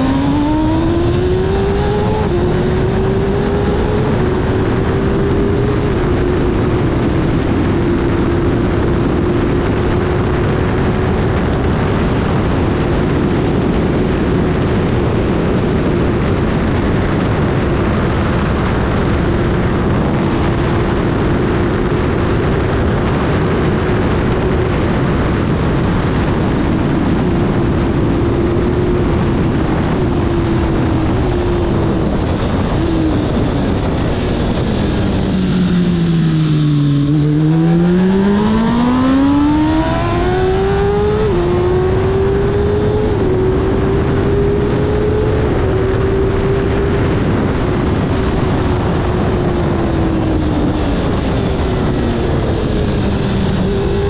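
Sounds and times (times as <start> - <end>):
motorcycle engine revving high: 0.0 - 54.0
wind rush: 0.0 - 54.0.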